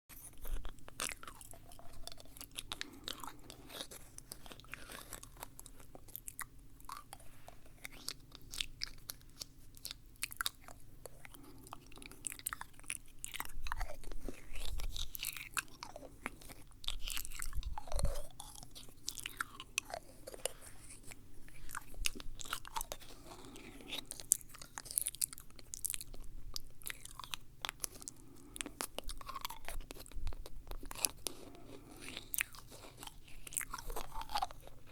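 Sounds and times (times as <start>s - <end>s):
wet mouth sounds: 0.2s - 34.9s.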